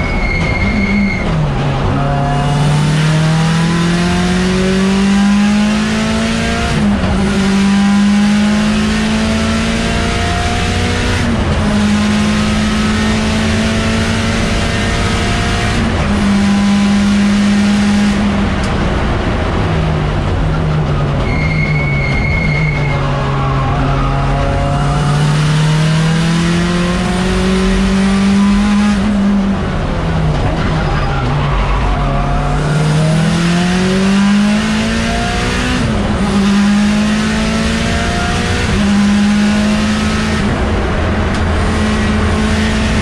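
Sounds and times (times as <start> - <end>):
race car engine at full throttle: 0.0 - 43.0.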